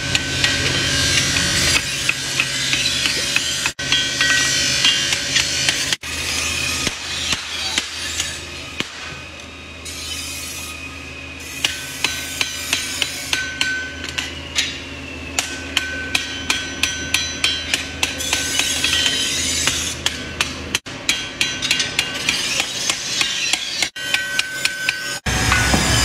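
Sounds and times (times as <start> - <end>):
anvil ringing: 0.0 - 9.2, 11.6 - 26.0
hammer blows on anvil: 0.0 - 9.3, 11.6 - 26.0.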